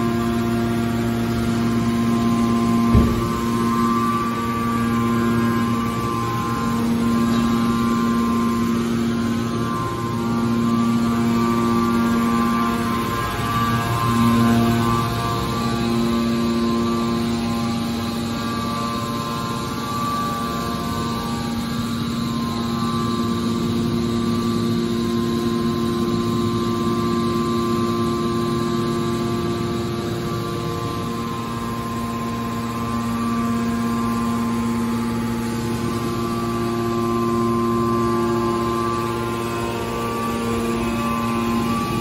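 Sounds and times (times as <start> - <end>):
hydraulic pump motor humming: 0.0 - 42.0.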